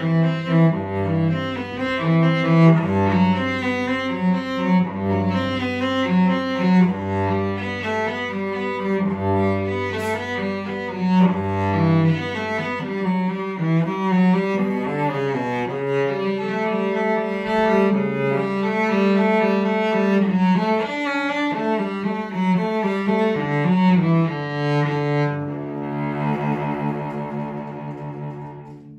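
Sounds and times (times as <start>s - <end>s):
bowed cello: 0.0s - 28.9s.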